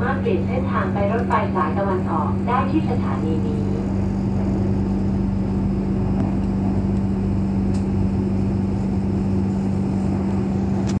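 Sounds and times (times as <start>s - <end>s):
low rolling rumble: 0.0s - 11.0s
train cabin hum: 0.0s - 11.0s.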